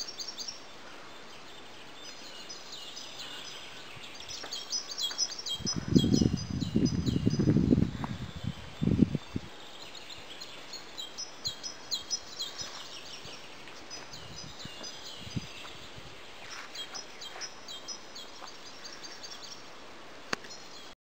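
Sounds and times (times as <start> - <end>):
outdoor background hiss: 0.0 - 21.0
songbirds chirping: 0.0 - 21.0.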